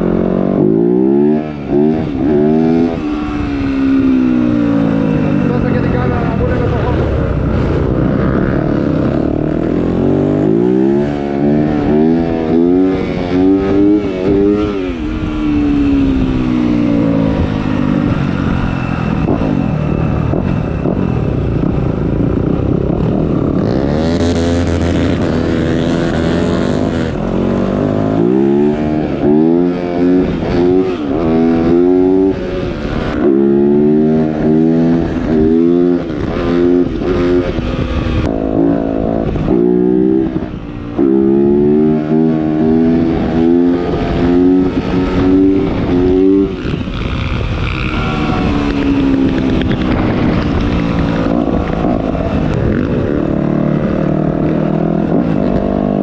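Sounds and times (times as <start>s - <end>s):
motocross bike engine revving: 0.0s - 21.2s, 22.4s - 56.0s.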